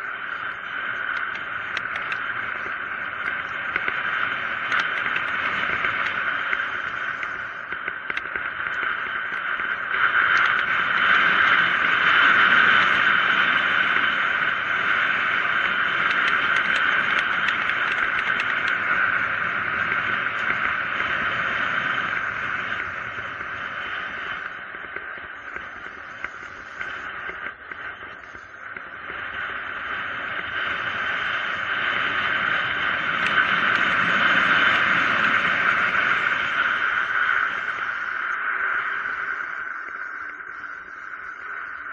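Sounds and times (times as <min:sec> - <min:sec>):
bike tyre road noise on asphalt: 0:00.0 - 0:41.9
rushing wind: 0:00.0 - 0:41.9.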